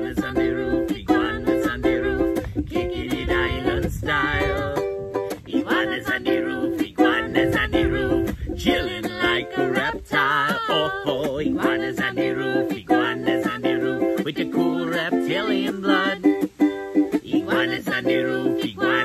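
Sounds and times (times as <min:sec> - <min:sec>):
person singing wordlessly: 0:00.0 - 0:19.0
ukulele strumming: 0:00.0 - 0:19.0.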